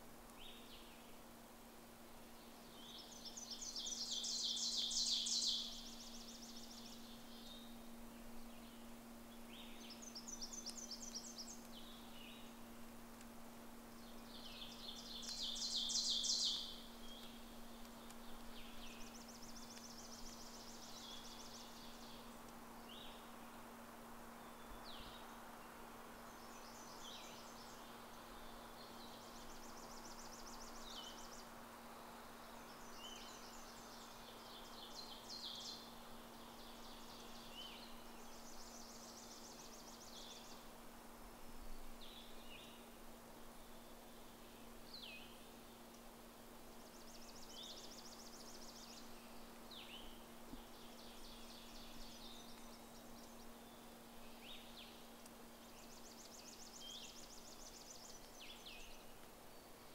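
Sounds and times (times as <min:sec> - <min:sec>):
faint low hum: 0:00.0 - 0:59.9
songbirds trilling and chirping: 0:00.0 - 0:59.9.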